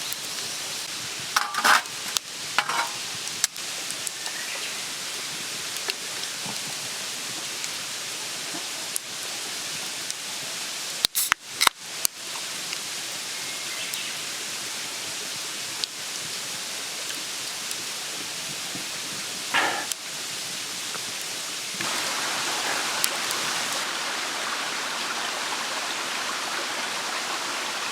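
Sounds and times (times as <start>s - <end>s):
food sizzling in a pan: 0.0s - 24.1s.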